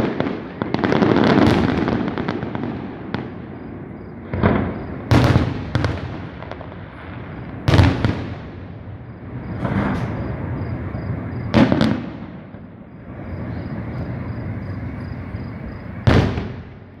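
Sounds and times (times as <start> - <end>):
fireworks bangs: 0.0 - 17.0
fireworks crackling hiss: 0.0 - 17.0.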